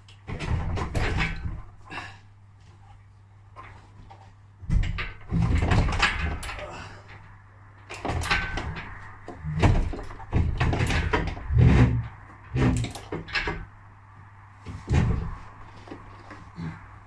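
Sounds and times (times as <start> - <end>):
heavy metal knocks and clunks: 0.2 - 2.1, 3.6 - 13.8, 14.6 - 17.0.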